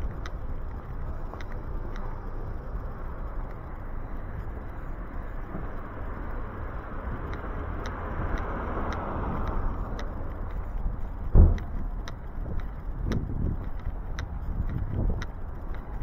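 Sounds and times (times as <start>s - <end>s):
faint ticks: 0.0s - 16.0s
traffic rumble: 0.0s - 16.0s
vehicle passing: 0.0s - 16.0s.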